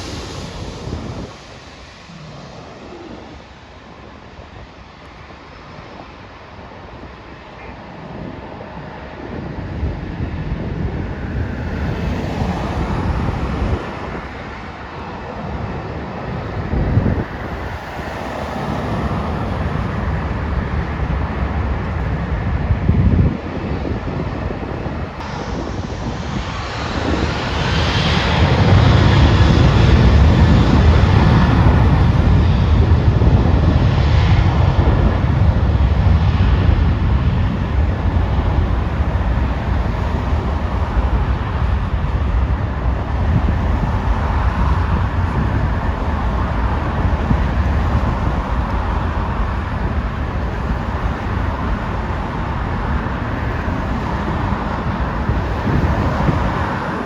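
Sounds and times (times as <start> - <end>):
jet engines passing: 0.0 - 57.0
wind buffeting microphone: 0.0 - 57.0.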